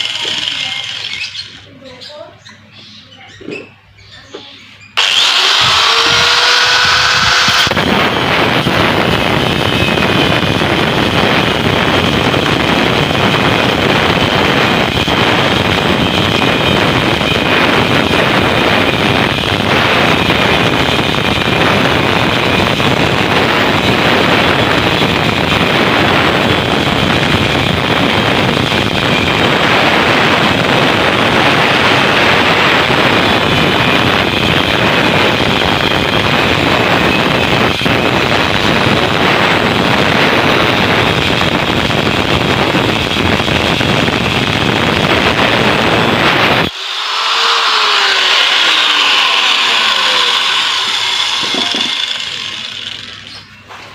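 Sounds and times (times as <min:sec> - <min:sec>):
angle grinder cutting steel: 0:05.0 - 0:53.6.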